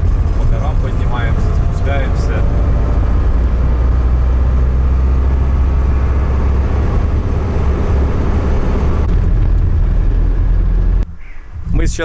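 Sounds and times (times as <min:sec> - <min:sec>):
car engine rumbling: 0:00.0 - 0:12.0
tyres on rough road: 0:00.0 - 0:12.0.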